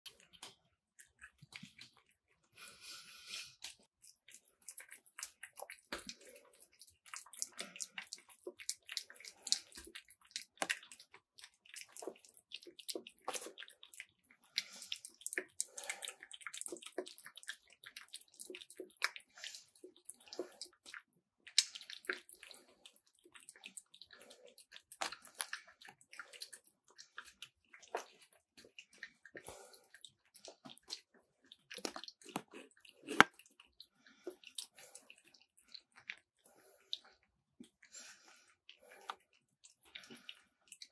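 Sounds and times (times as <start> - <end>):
cat chewing and lapping: 0.0 - 40.9.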